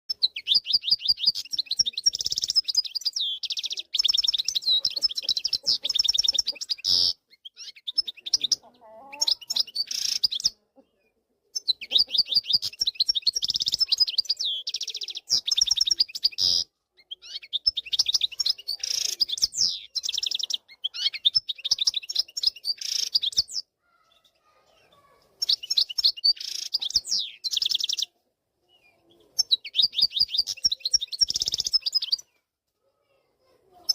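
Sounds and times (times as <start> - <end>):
goldfinch twittering song: 0.1 - 8.6, 11.6 - 24.5, 25.4 - 28.2, 28.9 - 32.3.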